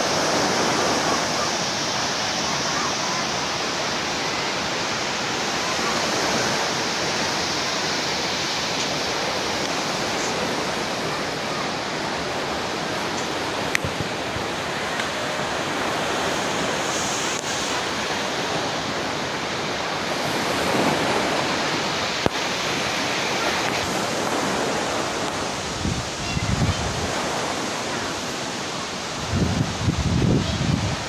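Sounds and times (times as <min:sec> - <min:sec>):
wind buffeting microphone: 0:00.0 - 0:28.4, 0:29.0 - 0:31.0
waterfall rushing: 0:00.0 - 0:31.0.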